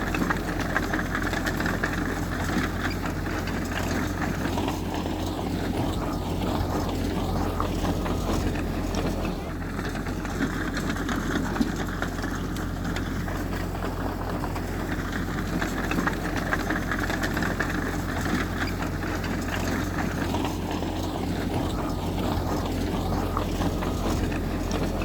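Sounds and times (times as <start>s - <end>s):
heavy diesel machinery engine: 0.0s - 25.0s.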